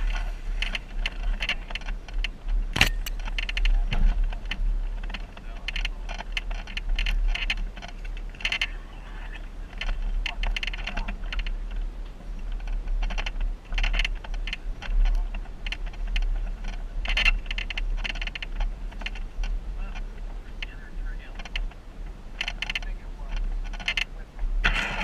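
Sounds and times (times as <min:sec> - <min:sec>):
low steady engine rumble: 0:00.0 - 0:25.0
vehicle clicking and rattling: 0:00.0 - 0:25.0.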